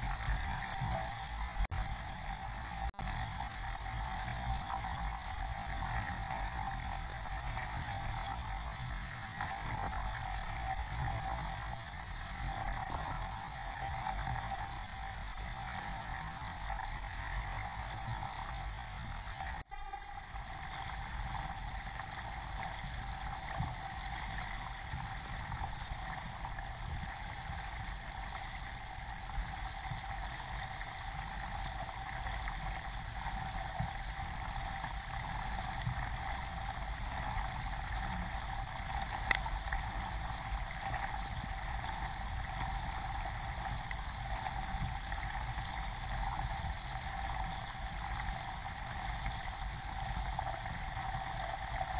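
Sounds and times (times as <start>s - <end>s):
water rushing along kayak: 0.0s - 51.9s.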